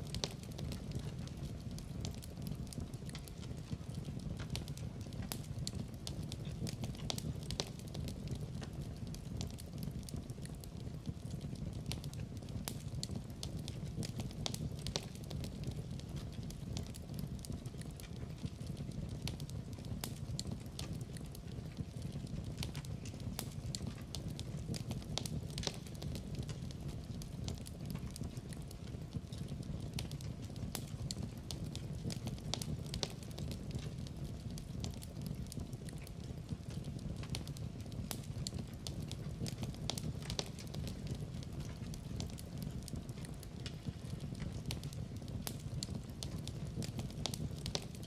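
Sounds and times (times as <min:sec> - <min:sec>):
fire flames rumbling: 0:00.0 - 0:48.0
fire popping and crackling: 0:00.0 - 0:48.0.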